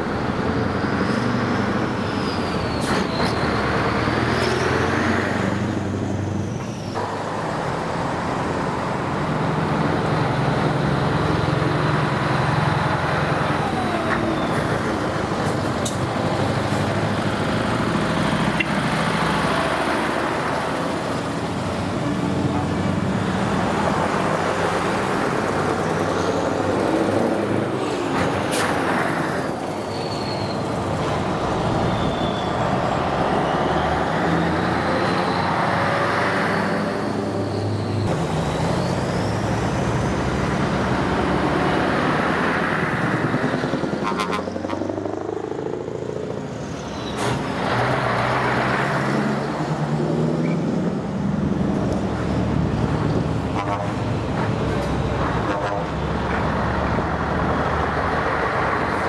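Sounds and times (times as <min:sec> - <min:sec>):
trucks driving past: 0:00.0 - 0:59.0.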